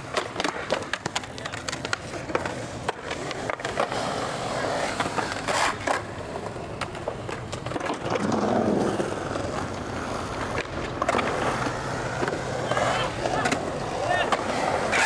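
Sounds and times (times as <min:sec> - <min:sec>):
skateboard clacks: 0:00.0 - 0:15.0
skateboard wheels rolling on concrete: 0:00.0 - 0:15.0.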